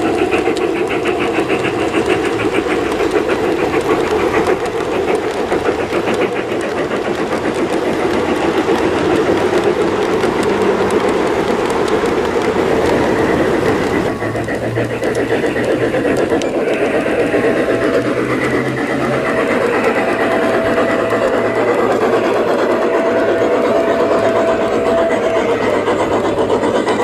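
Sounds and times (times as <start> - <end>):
model train motor humming: 0.0 - 27.0
wheels clicking on track: 0.0 - 27.0.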